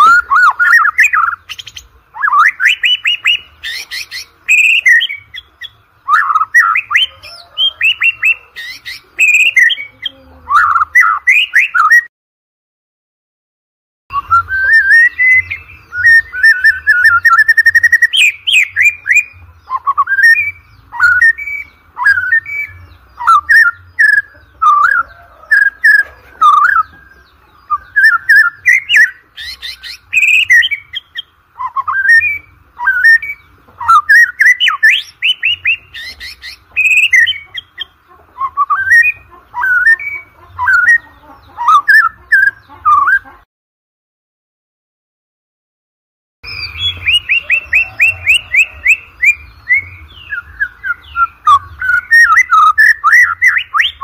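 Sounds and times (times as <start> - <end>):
bird singing: 0.0 - 12.1, 14.1 - 43.5, 46.4 - 54.0.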